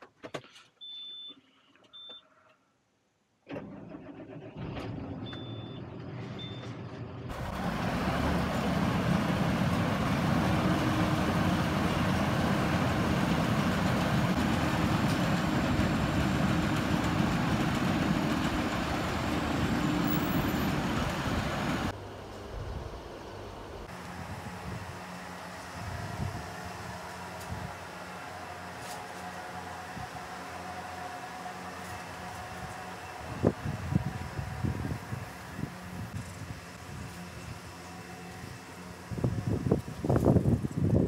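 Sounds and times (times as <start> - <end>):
tractor engine running: 3.6 - 41.0.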